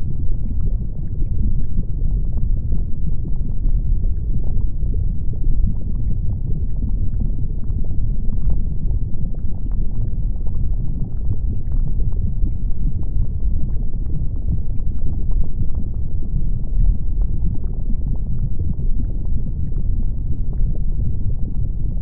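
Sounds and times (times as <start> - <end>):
crackles and pops: 0.0 - 22.0
volcano deep rumble: 0.0 - 22.0.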